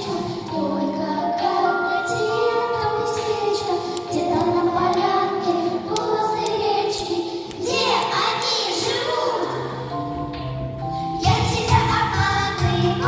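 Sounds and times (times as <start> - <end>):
children singing together: 0.0 - 10.0, 11.2 - 13.0
musical accompaniment: 0.0 - 13.0.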